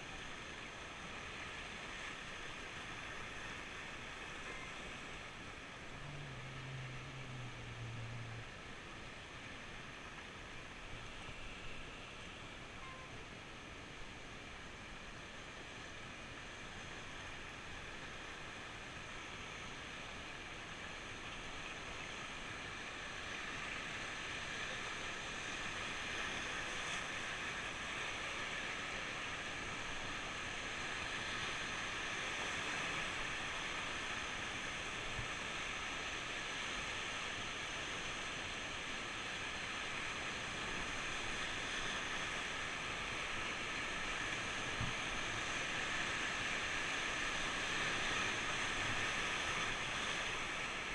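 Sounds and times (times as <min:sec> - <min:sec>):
rushing river water: 0:00.0 - 0:50.9.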